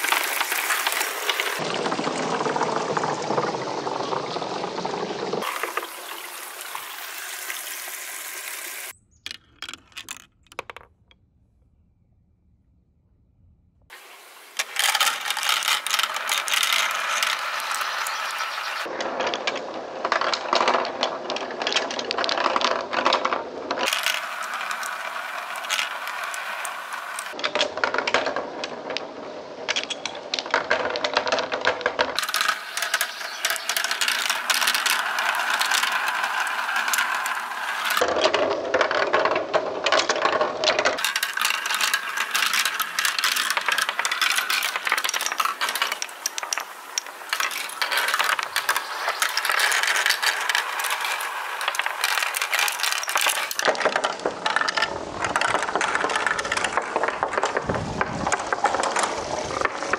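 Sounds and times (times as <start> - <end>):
marbles rolling and clattering: 0.0 - 11.2, 13.9 - 59.9.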